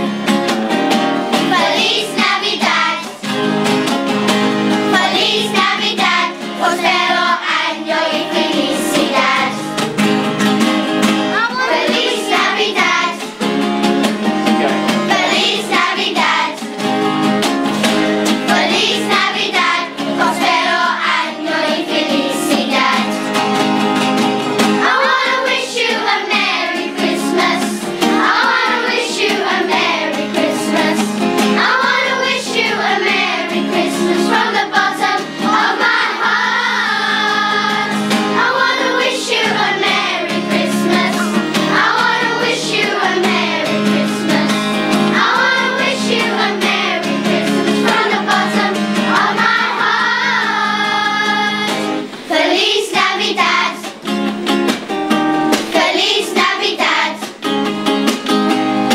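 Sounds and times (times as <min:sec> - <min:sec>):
children's choir singing a carol: 0:00.0 - 0:00.2, 0:01.1 - 0:03.5, 0:04.6 - 0:09.9, 0:11.1 - 0:13.6, 0:14.2 - 0:17.0, 0:17.8 - 0:23.5, 0:24.6 - 0:54.0, 0:55.6 - 0:57.4
guitar accompaniment: 0:00.0 - 0:58.9.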